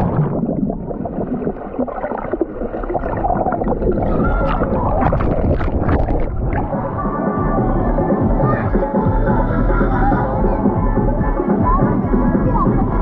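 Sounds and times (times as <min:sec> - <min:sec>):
underwater river gurgling: 0:00.0 - 0:13.0.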